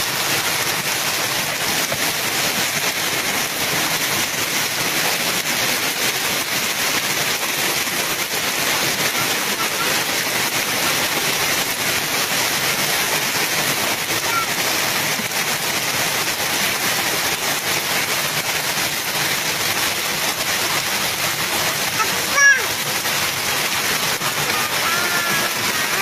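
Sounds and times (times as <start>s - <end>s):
heavy rain pouring: 0.0s - 26.0s
rushing floodwater: 0.0s - 26.0s.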